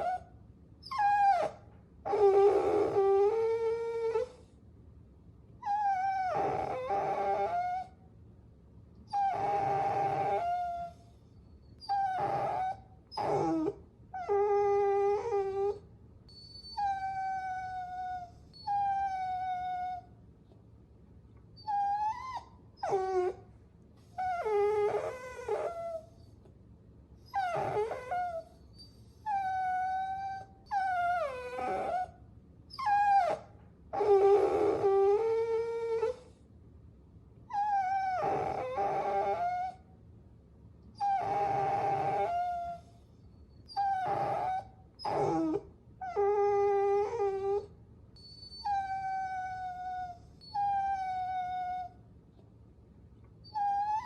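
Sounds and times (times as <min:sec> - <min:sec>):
puppies whining: 0:00.0 - 0:04.4, 0:05.6 - 0:07.9, 0:09.1 - 0:20.1, 0:21.6 - 0:23.4, 0:24.0 - 0:26.4, 0:27.2 - 0:36.4, 0:37.5 - 0:39.8, 0:41.0 - 0:52.0, 0:53.4 - 0:54.0.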